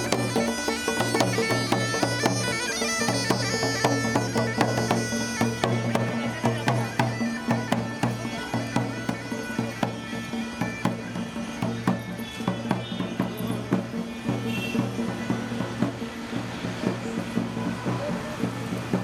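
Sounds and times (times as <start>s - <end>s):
bagpipe tune over drone: 0.0s - 16.2s
even drumbeat: 0.0s - 19.0s.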